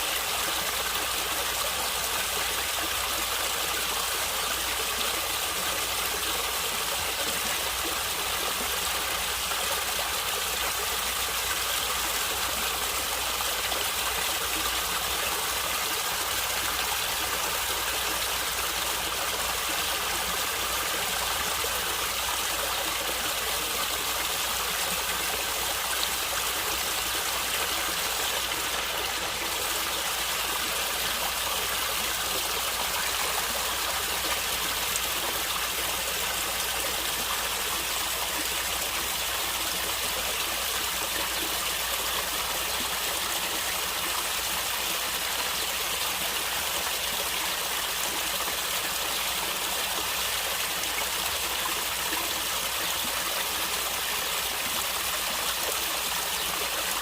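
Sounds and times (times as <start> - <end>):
stream water rushing and gurgling: 0.0 - 57.0.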